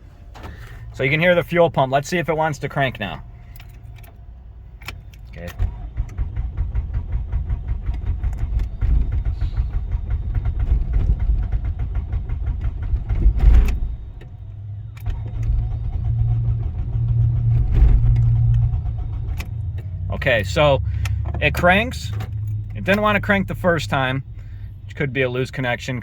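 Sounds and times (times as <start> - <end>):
car engine cranking: 0.0 - 26.0.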